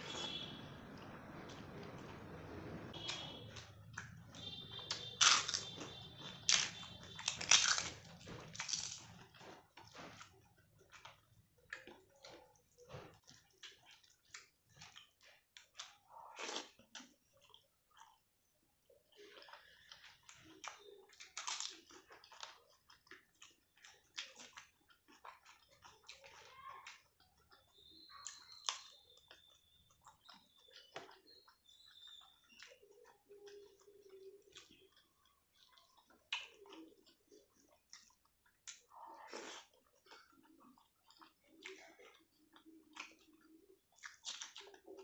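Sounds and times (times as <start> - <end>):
close chewing and mouth clicks: 2.9 - 45.0.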